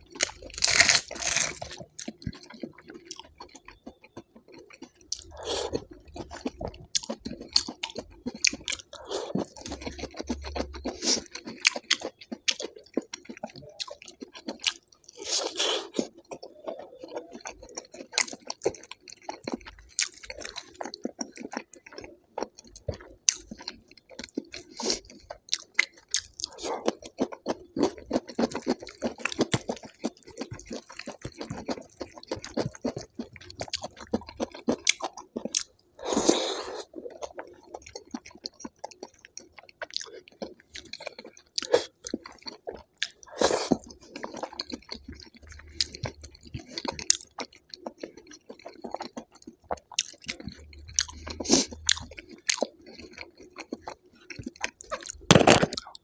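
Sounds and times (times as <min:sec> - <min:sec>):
chewing food: 0:00.0 - 0:56.0.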